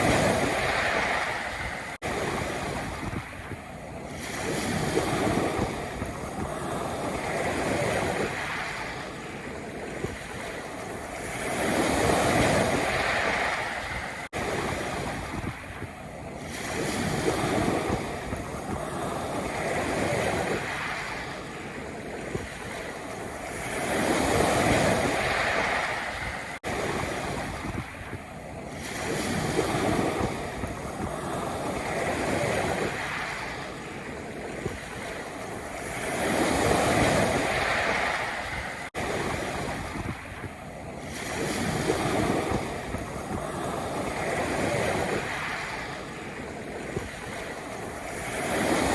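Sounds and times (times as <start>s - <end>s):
waves washing over pebbles: 0.0s - 48.9s.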